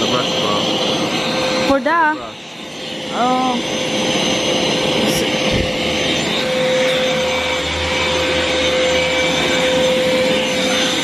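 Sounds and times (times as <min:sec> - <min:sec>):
vacuum motor whine: 0:00.0 - 0:11.0.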